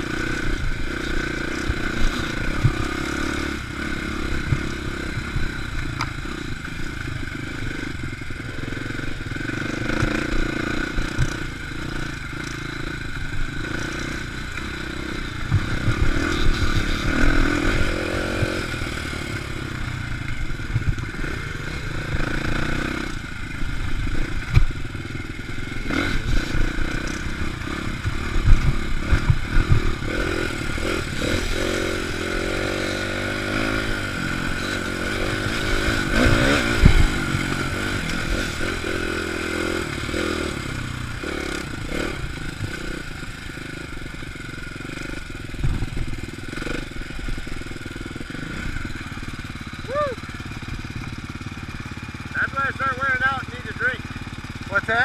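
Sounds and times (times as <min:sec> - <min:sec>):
bike rattling over bumps: 0:00.0 - 0:53.4
dirt bike engine revving: 0:00.0 - 0:55.0.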